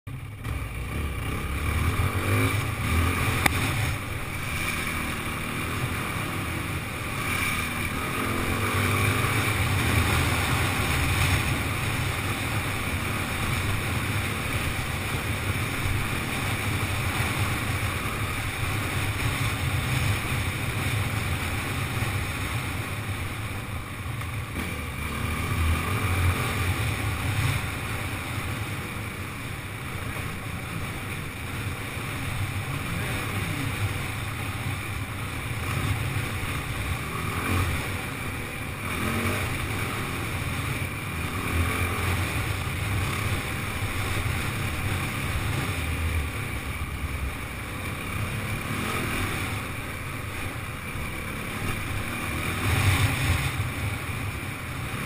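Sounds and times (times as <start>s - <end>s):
dirt bike engine revving: 0.3s - 23.7s, 24.4s - 55.0s.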